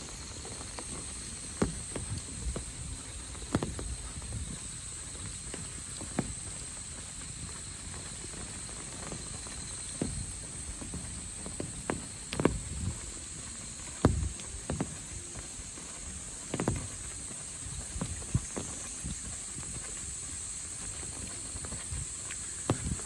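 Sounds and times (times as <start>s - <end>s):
footsteps on a path: 0.0s - 23.0s
high-pitched insect chorus: 0.0s - 23.0s.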